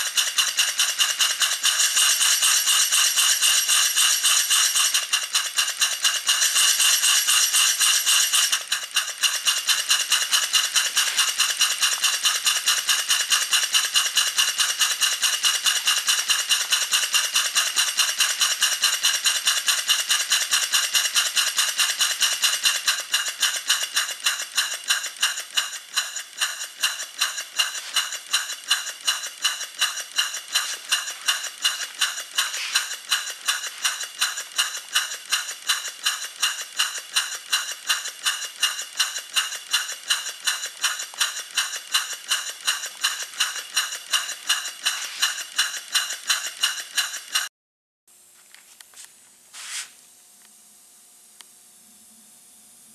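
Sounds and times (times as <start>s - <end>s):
steam engine exhaust chuffing: 0.0s - 47.5s.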